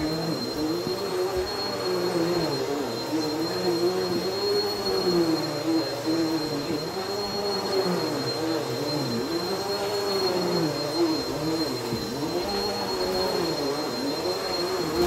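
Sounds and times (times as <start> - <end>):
steady high whine: 0.0 - 15.0
vacuum cleaner motor hum: 0.0 - 15.0.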